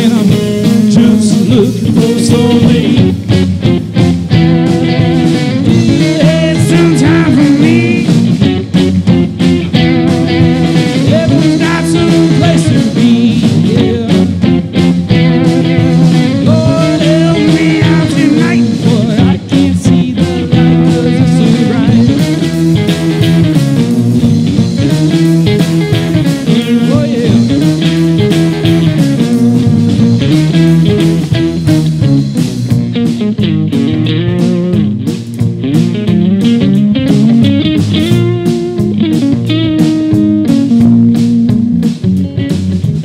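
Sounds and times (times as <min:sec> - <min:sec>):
rock band playing live: 0:00.0 - 0:43.0.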